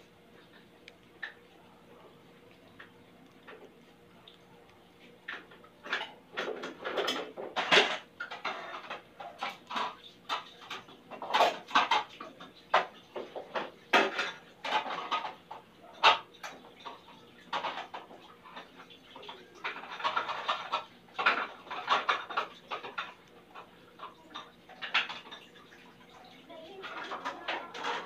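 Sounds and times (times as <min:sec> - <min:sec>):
dishes clattering: 0:05.2 - 0:28.0.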